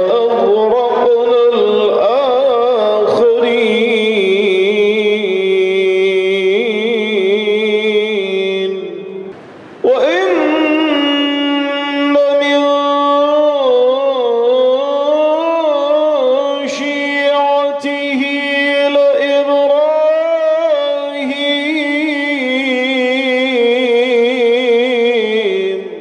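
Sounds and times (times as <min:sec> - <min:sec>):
man chanting melodic recitation: 0:00.0 - 0:26.0.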